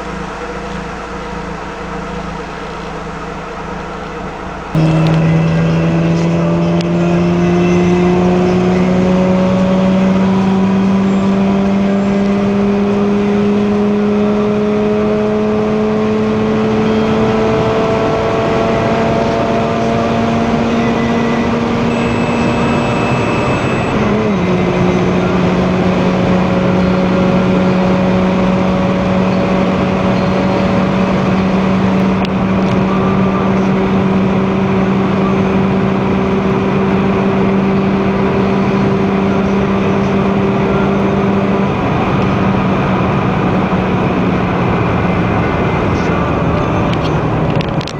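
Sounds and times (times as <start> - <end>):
rotary engine accelerating: 0.0 - 47.9.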